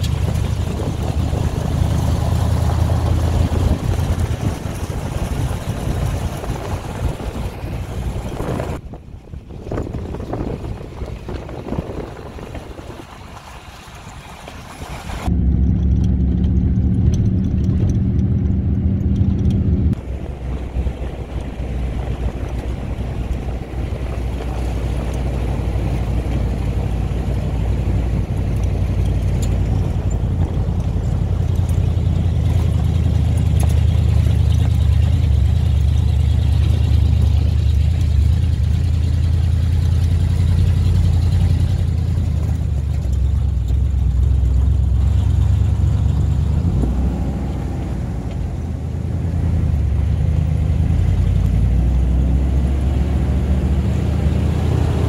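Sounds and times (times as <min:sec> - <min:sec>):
road and tyre rumble: 0:00.0 - 0:55.0
vehicle engine running: 0:00.0 - 0:55.0.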